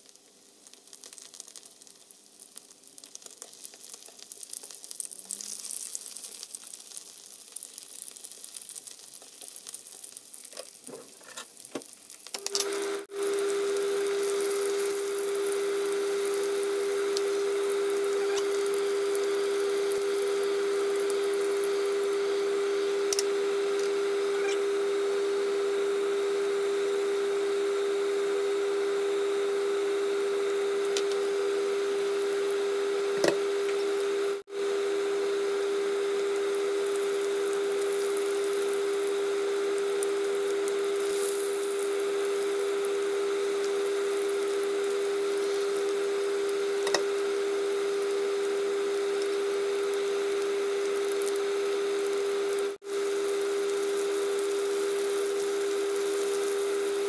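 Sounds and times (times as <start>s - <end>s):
chicken sizzling in hot oil: 0.0s - 57.0s
steady mechanical hum with hiss: 10.5s - 57.0s.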